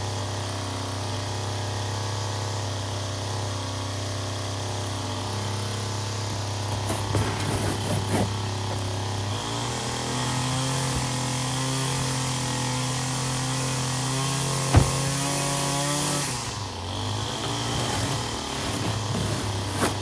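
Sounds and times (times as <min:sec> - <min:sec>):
small two-stroke engine running: 0:00.0 - 0:20.0.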